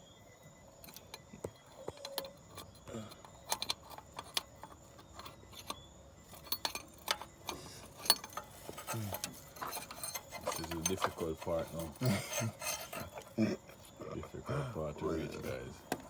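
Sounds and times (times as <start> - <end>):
spanners clinking on metal: 0.8 - 16.0.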